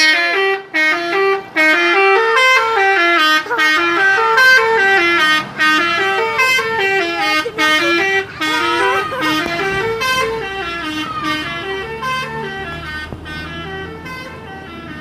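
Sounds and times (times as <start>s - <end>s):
multi-tone bus horn melody: 0.0s - 15.0s.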